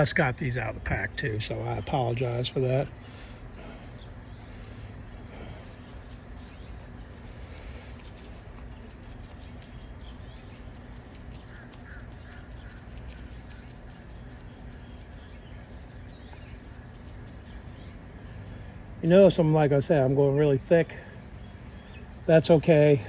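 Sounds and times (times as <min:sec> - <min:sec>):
faint bird chirps: 0:01.6 - 0:23.0.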